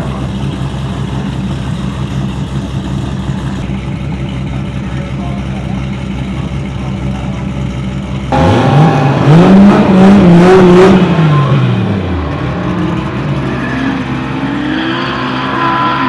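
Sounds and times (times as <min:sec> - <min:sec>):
drone of other engines: 0:00.0 - 0:16.0
faint engine revving: 0:00.0 - 0:16.0
race car engine at full throttle: 0:00.0 - 0:16.0.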